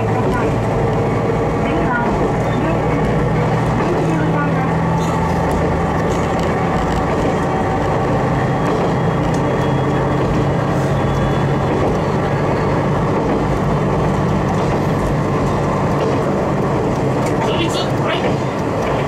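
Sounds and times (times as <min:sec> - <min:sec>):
railcar engine droning: 0:00.0 - 0:19.0
wheels rumbling on track: 0:00.0 - 0:19.0.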